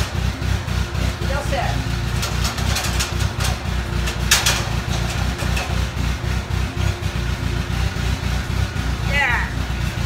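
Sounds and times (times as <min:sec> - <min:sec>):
forklift engine idling: 0:00.0 - 0:10.0.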